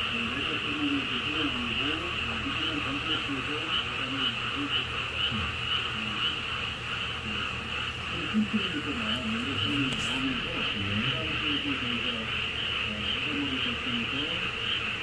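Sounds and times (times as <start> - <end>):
faint radio talk: 0.0 - 6.4, 7.1 - 15.0
pulsing high-pitched animal chorus: 0.0 - 15.0.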